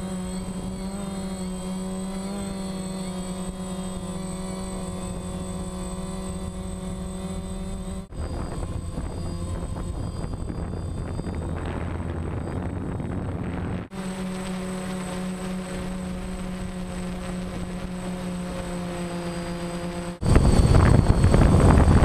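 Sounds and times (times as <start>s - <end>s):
drone propellers buzzing: 0.0s - 22.0s.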